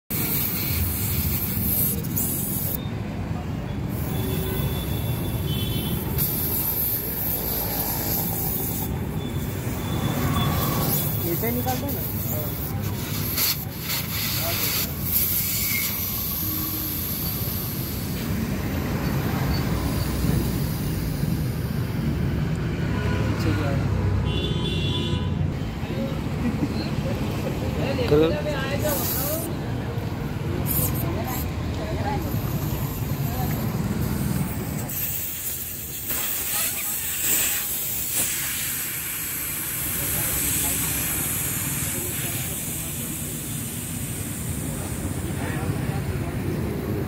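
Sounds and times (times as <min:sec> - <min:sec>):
air hissing from tyre valve: 0:00.1 - 0:03.2, 0:03.8 - 0:22.8, 0:28.0 - 0:47.0.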